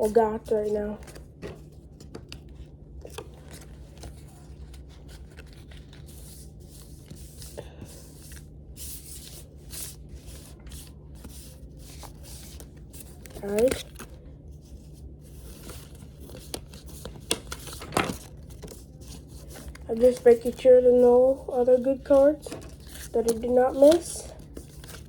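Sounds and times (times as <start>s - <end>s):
cards sliding and rustling: 0.0s - 25.0s
steady low hum: 0.0s - 25.0s.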